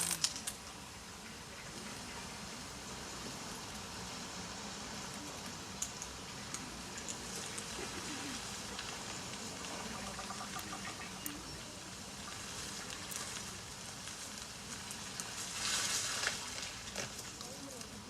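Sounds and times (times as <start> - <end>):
rustle or flutter: 0.0 - 0.9, 1.5 - 18.0
steady hiss: 0.0 - 18.0.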